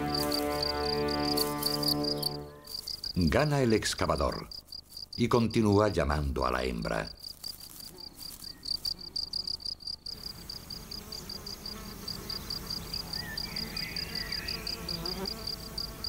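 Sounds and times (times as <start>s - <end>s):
cricket chirping: 0.0s - 5.7s, 6.6s - 16.0s
faint low insect buzz: 0.0s - 16.0s.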